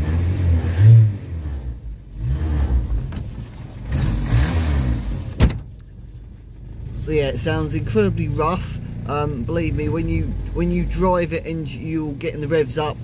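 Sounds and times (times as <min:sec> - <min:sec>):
rough car engine revving: 0:00.0 - 0:13.0.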